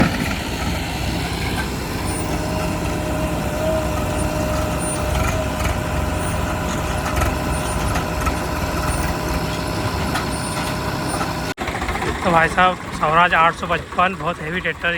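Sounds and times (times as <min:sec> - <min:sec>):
diesel engines rumbling: 0:00.0 - 0:14.9
steady engine whine: 0:00.0 - 0:14.9.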